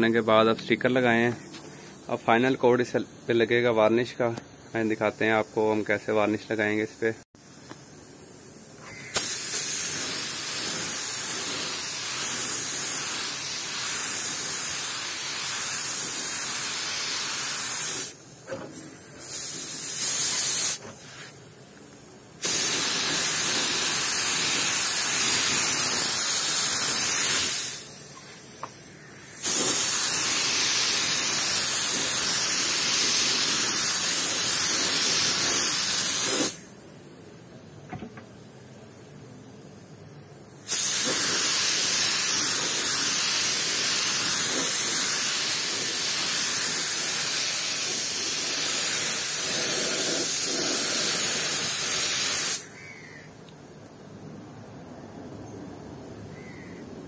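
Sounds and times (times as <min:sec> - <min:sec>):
paint spray gun hissing: 0:00.1 - 0:36.8, 0:40.5 - 0:53.2.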